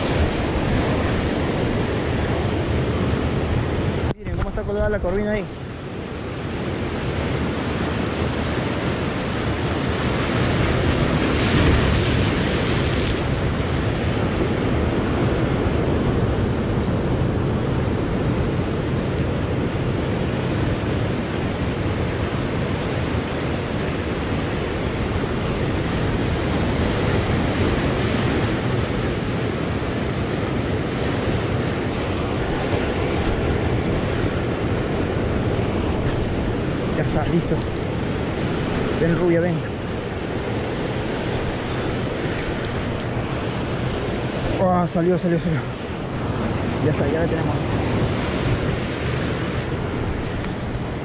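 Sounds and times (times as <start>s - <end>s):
ocean surf breaking over rocks: 0.0s - 51.0s
wind on microphone: 0.0s - 51.0s.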